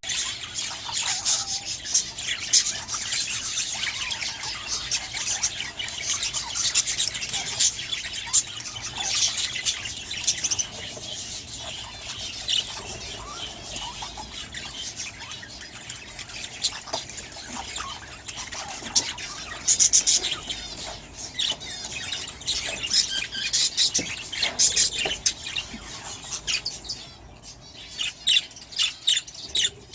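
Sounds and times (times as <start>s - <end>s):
budgerigars chirping: 0.0s - 29.9s.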